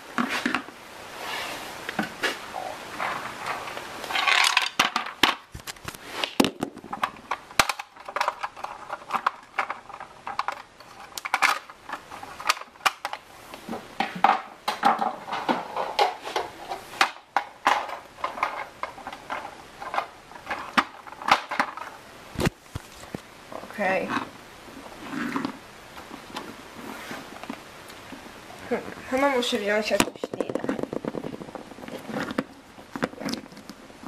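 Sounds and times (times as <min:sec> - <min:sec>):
rustling: 0:00.0 - 0:34.0.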